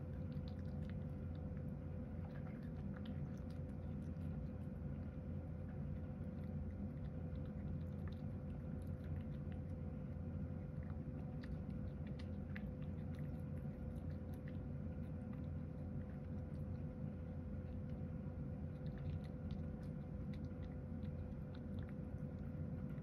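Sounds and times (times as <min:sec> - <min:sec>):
cat chewing clicks: 0:00.0 - 0:23.0
low hum with faint tone: 0:00.0 - 0:23.0.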